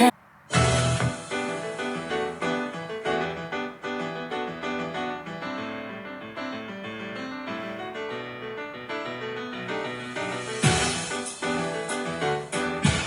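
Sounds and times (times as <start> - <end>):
piano pop ballad: 0.6 - 13.0.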